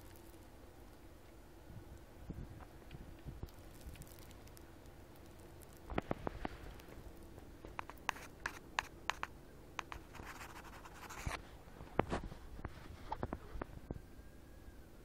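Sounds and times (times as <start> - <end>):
wood fire crackling: 0.0 - 13.7.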